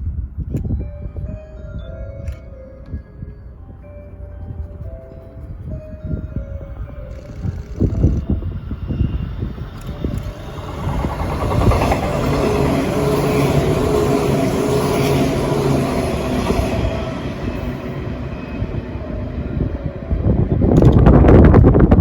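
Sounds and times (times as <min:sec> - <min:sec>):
electric train passing: 0:01.1 - 0:22.0.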